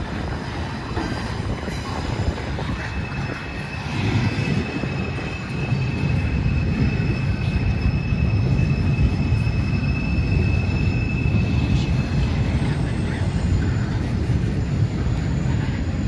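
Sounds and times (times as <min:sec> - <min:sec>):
train rumbling past: 0:00.0 - 0:16.0
high-pitched squeal: 0:01.4 - 0:16.0.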